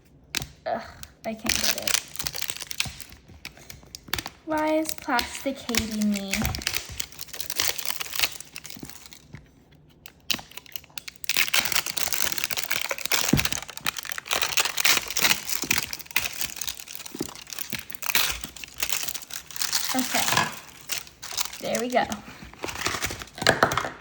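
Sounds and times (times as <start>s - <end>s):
plastic wrapping crinkling and tearing: 0.0s - 24.0s.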